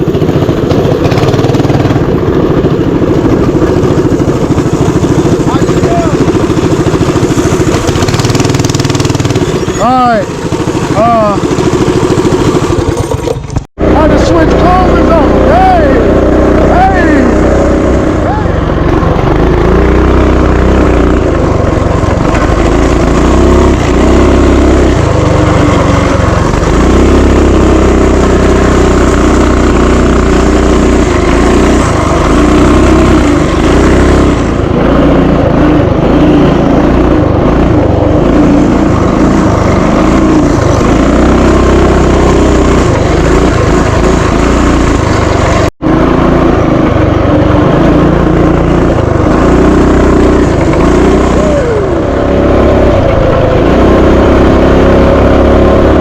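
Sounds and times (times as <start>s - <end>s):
mini bike engine revving: 0.0s - 56.0s.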